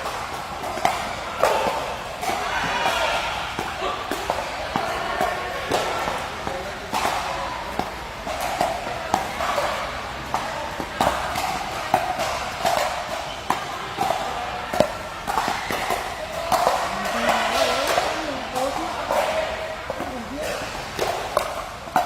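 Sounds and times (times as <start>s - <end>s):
murmur of people: 0.0s - 22.0s.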